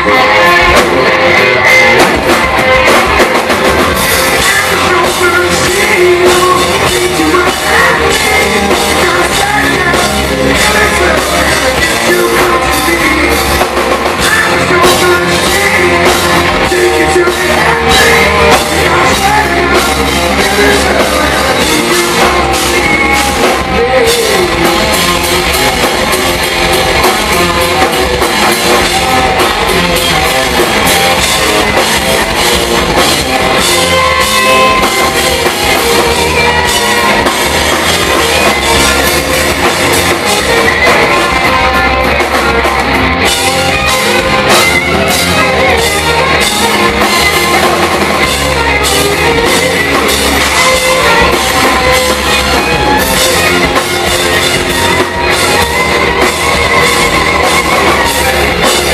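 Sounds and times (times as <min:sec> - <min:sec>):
drum kit: 0:00.0 - 0:58.9
electric guitars: 0:00.0 - 0:58.9.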